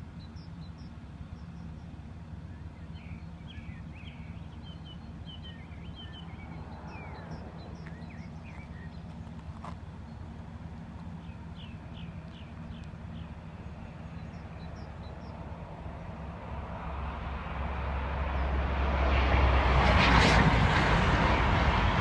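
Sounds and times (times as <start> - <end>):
train rumbling: 1.9 - 22.0.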